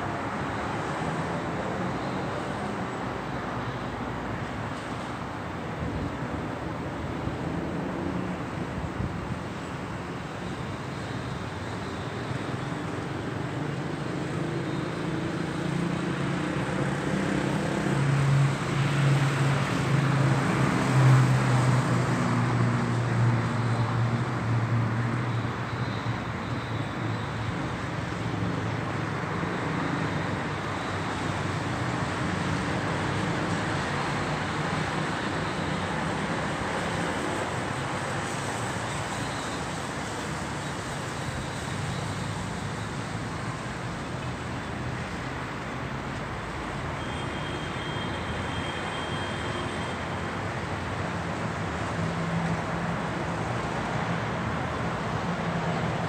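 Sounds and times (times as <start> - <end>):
road traffic noise: 0.0 - 56.0.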